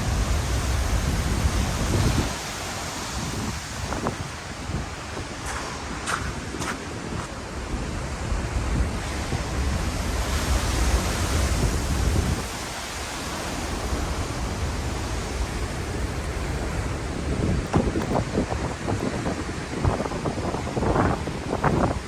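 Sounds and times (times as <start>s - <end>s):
surf breaking on rocky shore: 0.0s - 22.0s
wind buffeting microphone: 0.0s - 22.0s.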